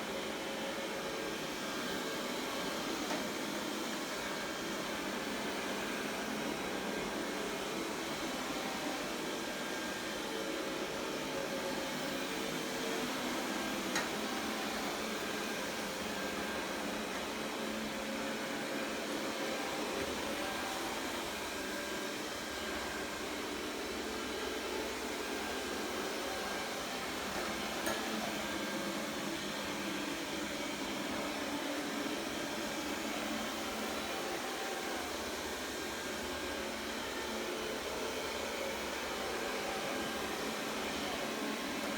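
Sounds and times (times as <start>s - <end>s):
robot vacuum cleaner whirring: 0.0s - 41.9s.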